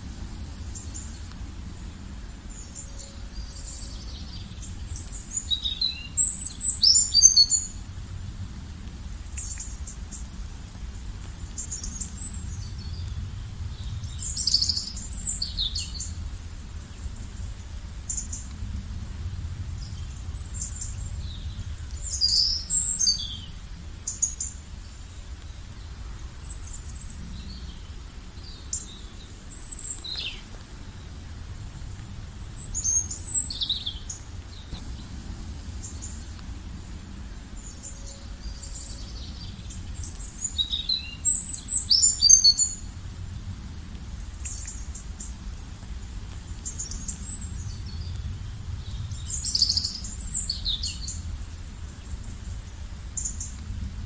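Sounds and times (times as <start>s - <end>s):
low background rumble: 0.0s - 54.0s
small birds chirping: 0.5s - 8.0s, 9.2s - 18.8s, 19.5s - 43.5s, 44.1s - 53.8s.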